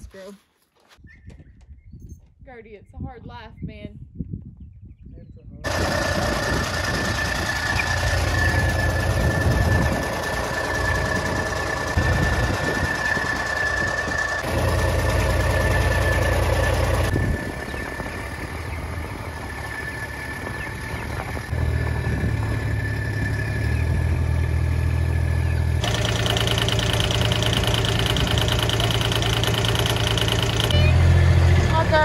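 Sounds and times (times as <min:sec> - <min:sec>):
vehicle engine idling: 0:05.7 - 0:32.0.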